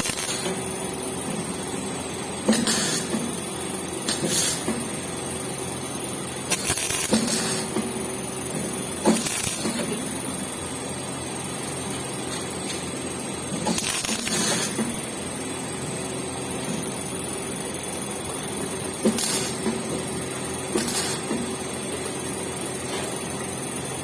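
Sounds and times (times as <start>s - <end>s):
welding arc crackling sizzles: 0.0s - 24.0s
welding machine hum: 0.0s - 24.0s.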